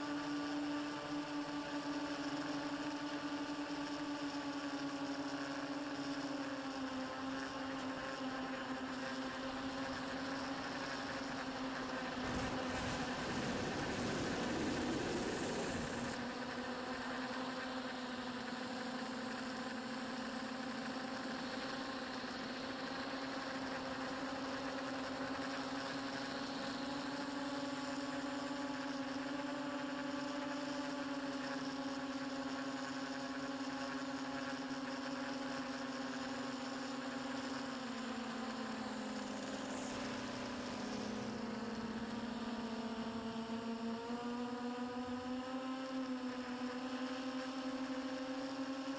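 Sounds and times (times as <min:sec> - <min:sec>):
model aircraft motor and propeller hum: 0:00.0 - 0:48.9.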